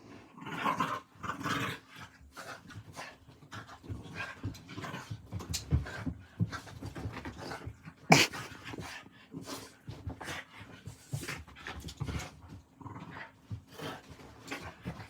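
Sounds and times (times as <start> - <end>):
dogs play-fighting noises: 0.0 - 15.0.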